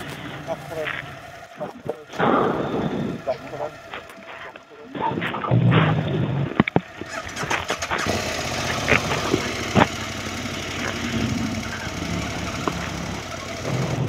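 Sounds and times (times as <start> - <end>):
motorcycle engines idling: 0.0 - 14.0.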